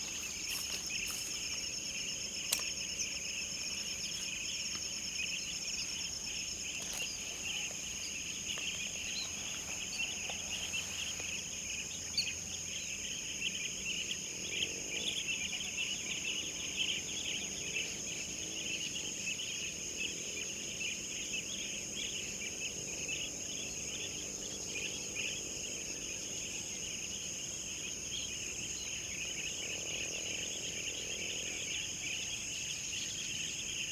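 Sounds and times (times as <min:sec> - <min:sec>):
crickets and insects trilling: 0:00.0 - 0:33.9.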